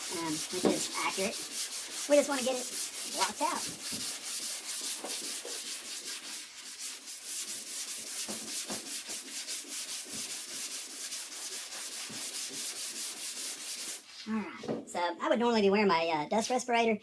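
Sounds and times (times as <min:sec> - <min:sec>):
sandpaper rasping on metal panel: 0:00.0 - 0:14.1.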